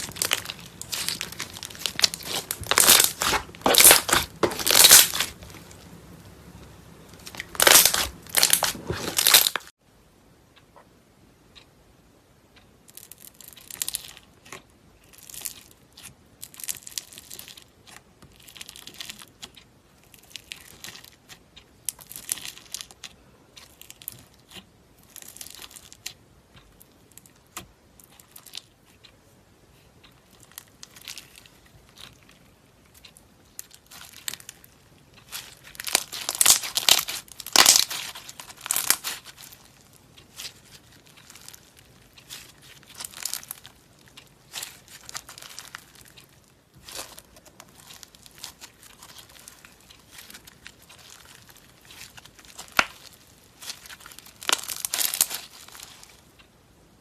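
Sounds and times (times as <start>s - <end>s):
slime squishing by hand: 0.0s - 9.7s, 13.1s - 29.2s, 29.8s - 56.6s.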